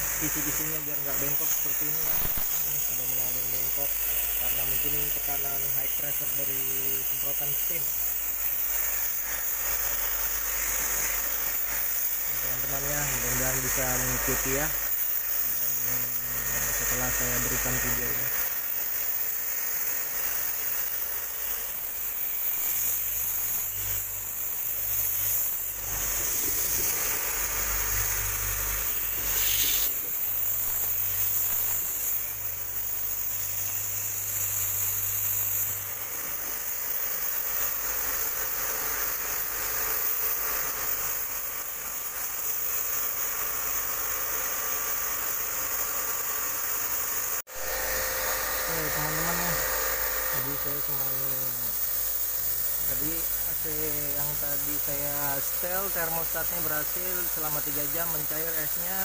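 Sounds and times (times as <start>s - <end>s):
high-pressure water jet hissing: 0.0s - 59.0s.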